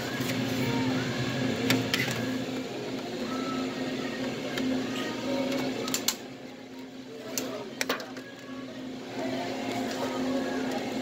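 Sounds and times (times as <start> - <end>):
dispenser pump running: 0.0 - 11.0.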